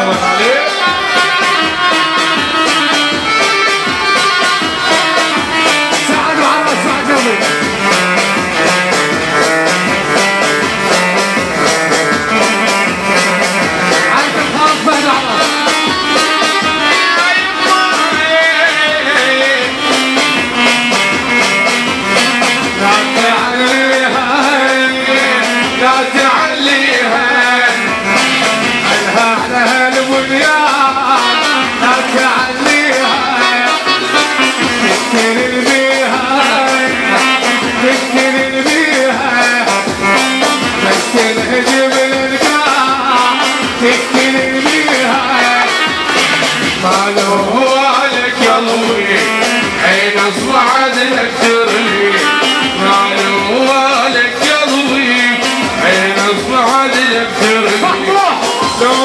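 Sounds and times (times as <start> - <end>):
fast drum beat: 0.0 - 59.0
ornamented party music melody: 0.0 - 59.0.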